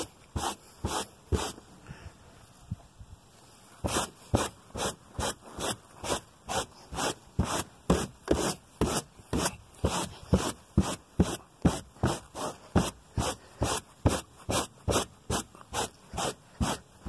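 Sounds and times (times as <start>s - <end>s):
brush scrubbing carpet: 0.0s - 1.6s, 3.8s - 17.0s.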